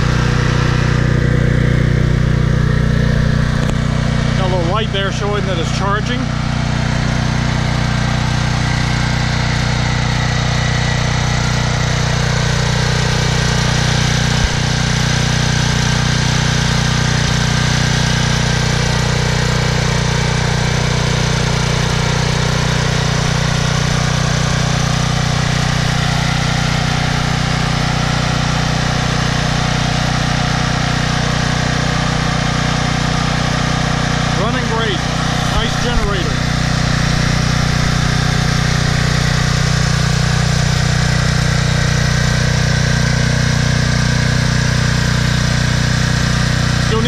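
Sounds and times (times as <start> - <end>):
generator engine running: 0.0 - 47.0.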